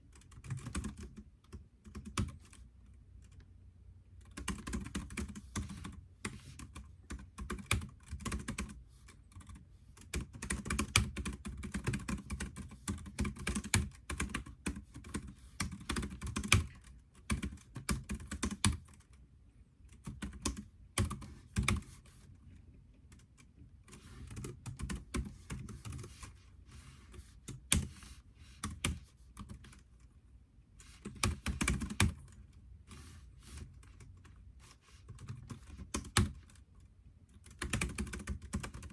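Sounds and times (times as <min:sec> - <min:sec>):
computer keyboard typing: 0:00.0 - 0:02.6, 0:04.2 - 0:19.2, 0:19.9 - 0:22.2, 0:23.1 - 0:26.4, 0:27.1 - 0:30.0, 0:30.8 - 0:36.7, 0:37.3 - 0:38.9.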